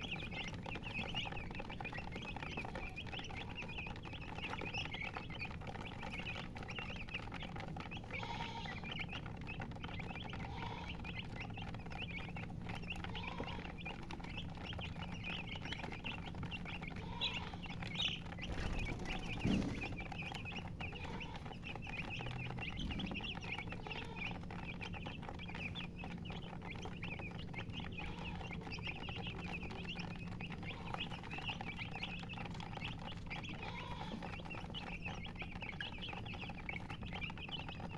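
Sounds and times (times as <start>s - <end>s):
chickens peeping: 0.0s - 37.9s.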